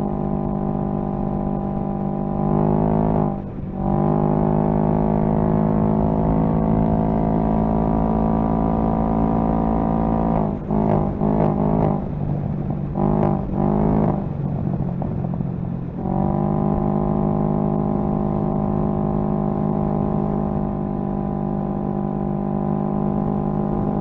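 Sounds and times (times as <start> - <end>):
low wind rumble: 0.0 - 24.0
motorcycle engine at speed: 0.0 - 24.0.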